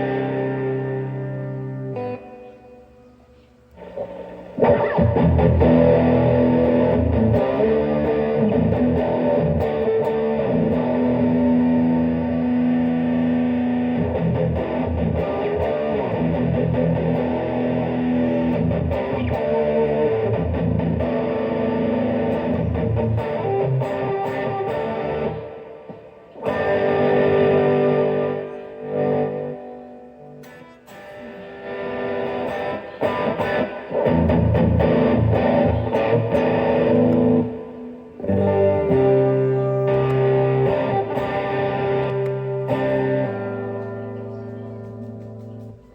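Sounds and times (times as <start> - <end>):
distorted electric guitar chords: 0.0 - 45.9.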